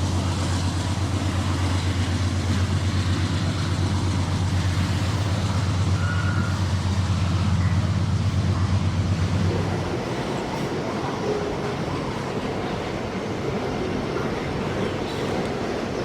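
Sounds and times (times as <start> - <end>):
diesel locomotive drone: 0.0 - 16.0
train wagons rolling on rails: 0.0 - 16.0.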